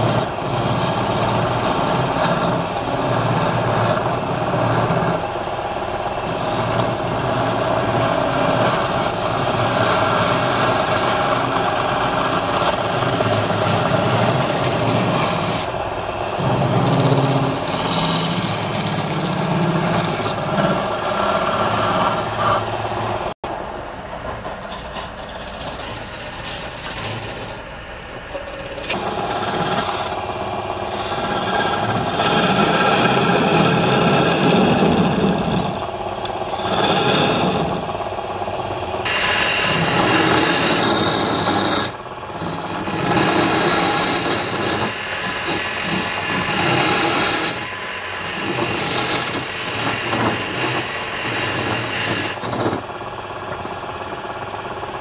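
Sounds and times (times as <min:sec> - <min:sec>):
wood shaving on lathe: 0:00.0 - 0:23.4, 0:25.6 - 0:27.7, 0:28.3 - 0:38.4, 0:39.0 - 0:54.7
lathe humming: 0:00.0 - 0:55.0.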